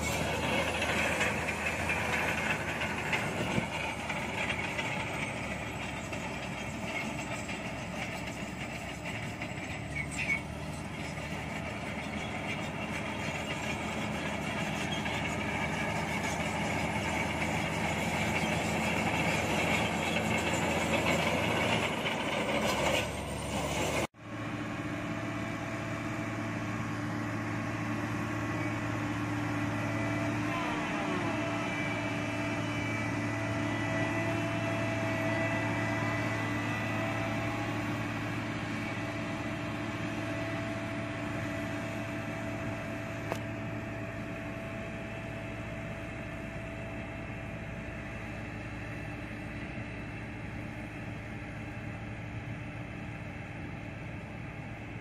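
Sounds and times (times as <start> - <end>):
bulldozer diesel engine running: 0.0 - 55.0
road roller diesel engine humming: 0.0 - 55.0.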